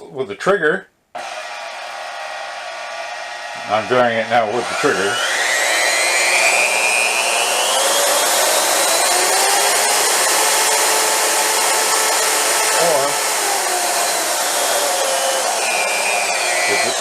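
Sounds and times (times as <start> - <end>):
band saw motor whine: 1.2 - 17.0.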